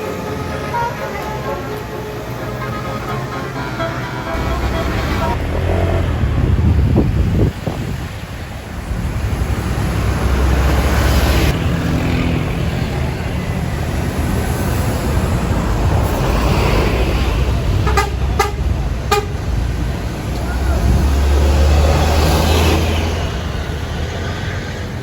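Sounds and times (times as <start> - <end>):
bus engine running: 0.0 - 25.0
road traffic noise: 0.0 - 25.0.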